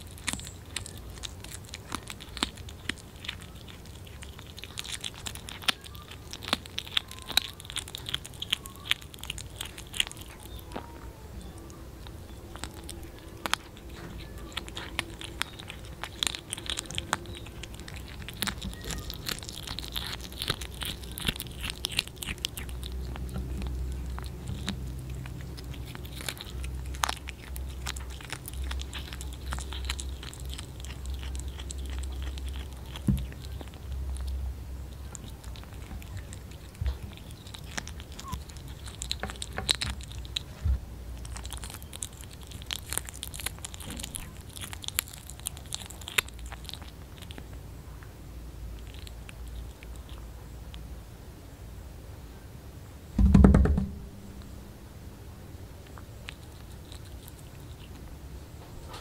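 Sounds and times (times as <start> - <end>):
kitten chewing crunchy fish: 0.0 - 52.4, 53.0 - 59.0.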